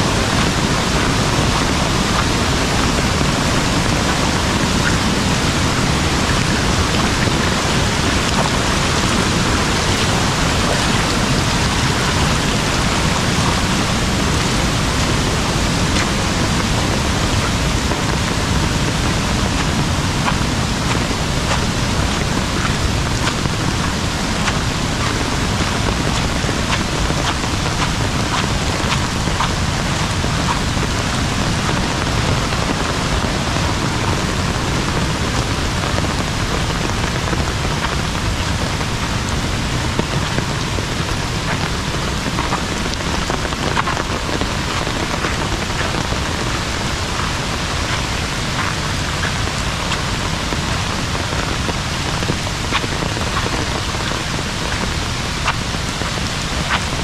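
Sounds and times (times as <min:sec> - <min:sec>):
heavy rain falling: 0:00.0 - 0:57.0
sharp raindrop ticks: 0:00.1 - 0:57.0.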